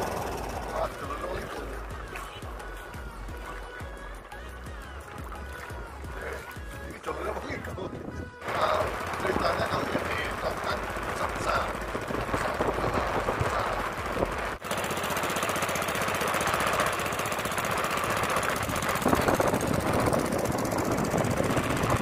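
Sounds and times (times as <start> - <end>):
small boat engine pulsing: 0.0 - 22.0.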